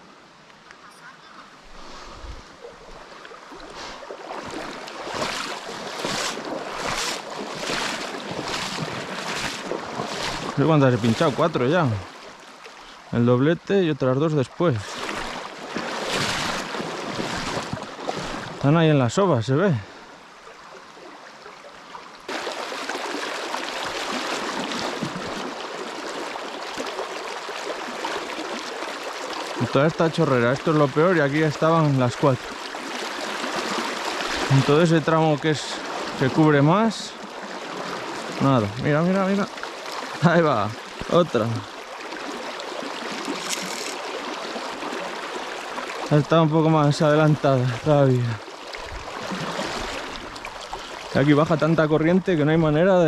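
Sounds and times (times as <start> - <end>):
legs wading through river water: 0.8 - 53.0.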